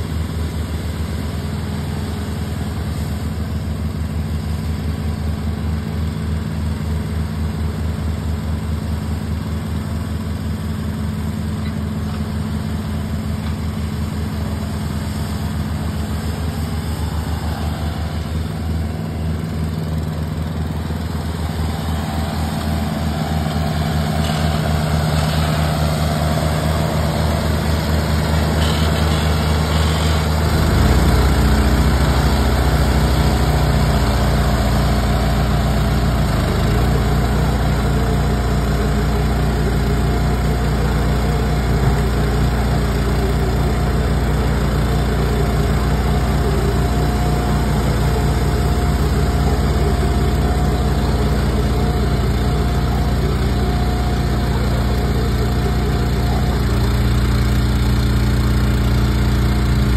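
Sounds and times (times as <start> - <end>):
bale wrapper engine: 0.0 - 59.9
tractor diesel engine running: 0.0 - 59.9.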